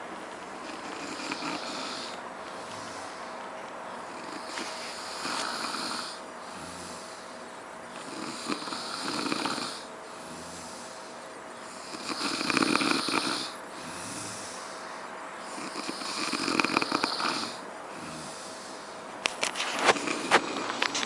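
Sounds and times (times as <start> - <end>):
person snoring: 0.6 - 3.3, 4.1 - 7.4, 8.0 - 18.9.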